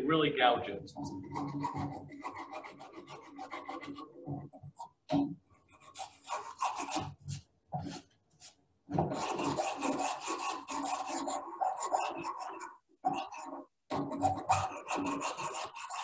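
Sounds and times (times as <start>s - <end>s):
chisel scraping glue off wood: 0.9s - 16.0s.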